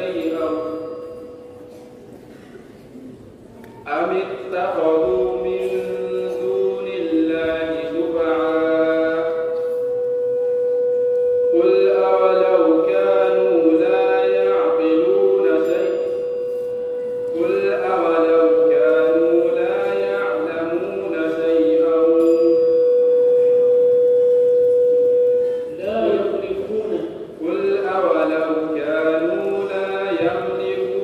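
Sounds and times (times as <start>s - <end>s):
man reciting melodically: 0.0s - 1.3s, 3.8s - 10.1s, 10.8s - 16.4s, 17.1s - 24.2s, 25.3s - 31.0s.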